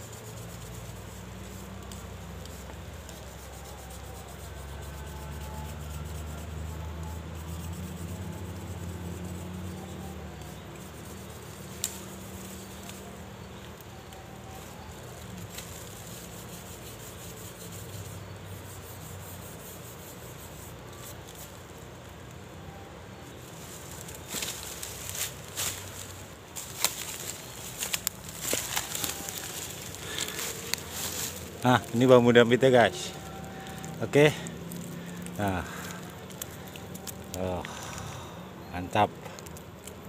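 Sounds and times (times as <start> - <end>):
blade scraping bamboo: 0.0 - 22.3, 23.3 - 37.6.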